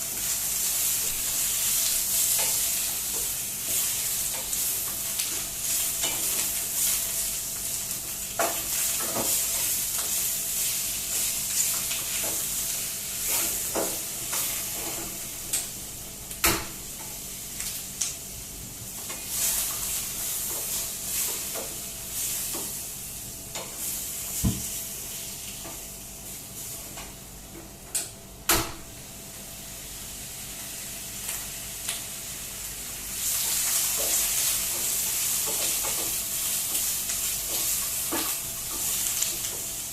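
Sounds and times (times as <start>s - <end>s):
food sizzling in a pot: 0.0s - 27.4s, 28.9s - 39.9s.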